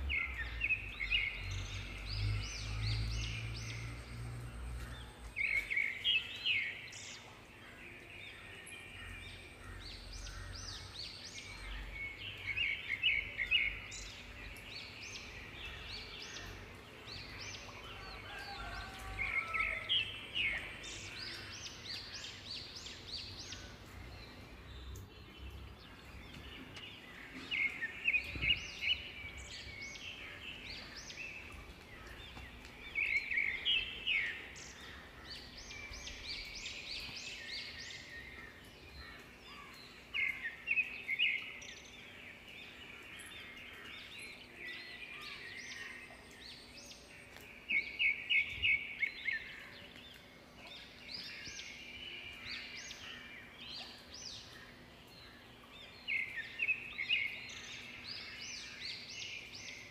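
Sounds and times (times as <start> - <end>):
faint background noise: 0.0 - 59.9.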